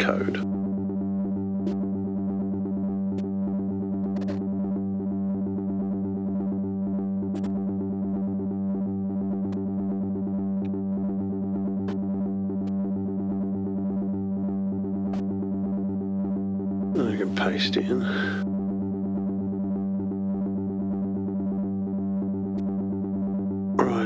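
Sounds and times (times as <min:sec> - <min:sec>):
synthesizer low drone: 0:00.0 - 0:24.0.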